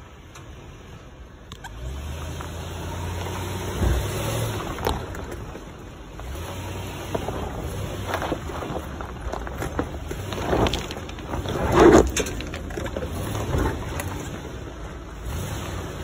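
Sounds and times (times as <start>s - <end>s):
low engine rumble: 0.0s - 16.0s
tyres crunching over stones: 2.2s - 16.0s.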